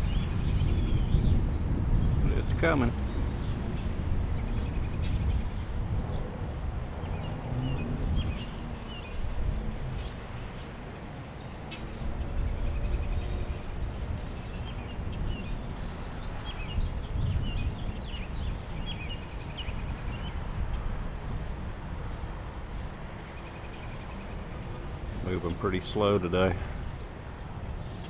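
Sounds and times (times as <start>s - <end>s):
small birds chirping: 0.0s - 21.8s, 22.7s - 28.0s.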